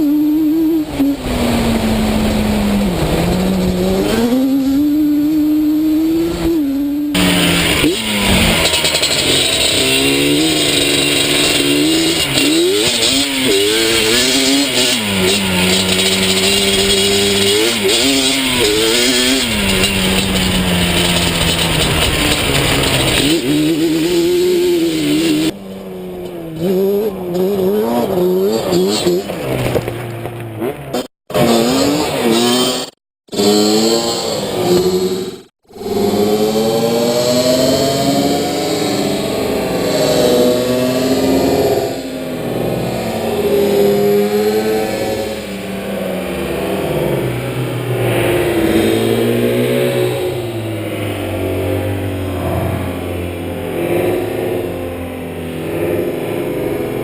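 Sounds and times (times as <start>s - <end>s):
two-stroke quad engine revving: 0.0s - 57.0s.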